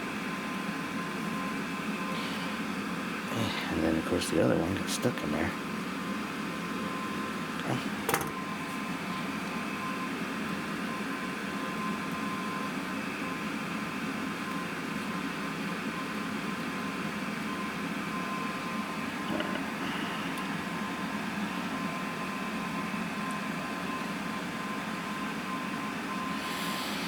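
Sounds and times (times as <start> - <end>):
fan whirring: 0.0 - 27.0.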